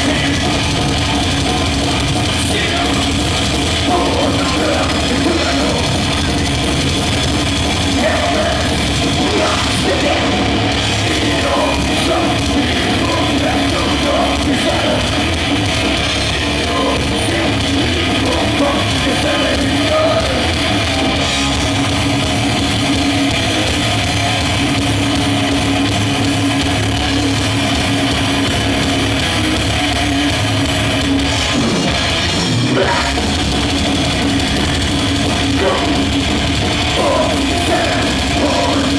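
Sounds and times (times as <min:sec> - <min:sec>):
metal band playing loudly: 0:00.0 - 0:38.9.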